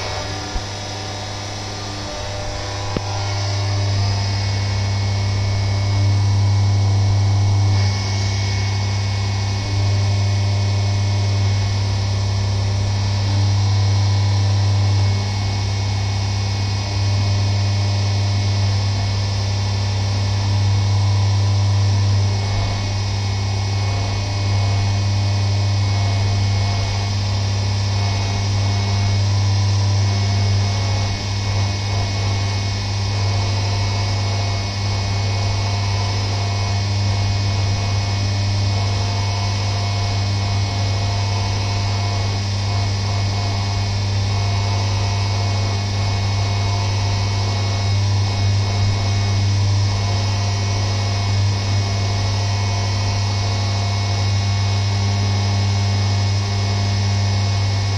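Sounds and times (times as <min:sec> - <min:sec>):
milling machine humming: 0:00.0 - 0:57.9.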